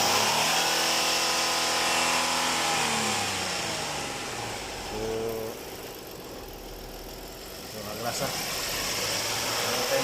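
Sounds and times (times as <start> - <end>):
vehicle engine winding down: 0.0 - 10.0.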